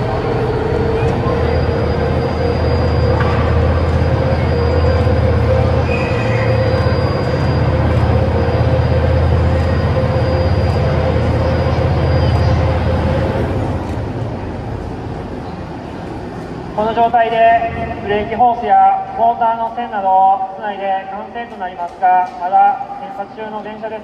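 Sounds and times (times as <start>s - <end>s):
crane motors rumbling and whining: 0.0s - 19.8s.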